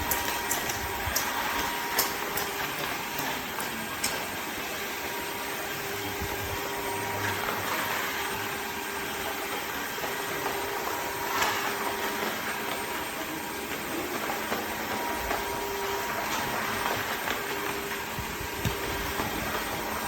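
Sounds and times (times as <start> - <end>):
vacuum mop motor whir: 0.0 - 20.0.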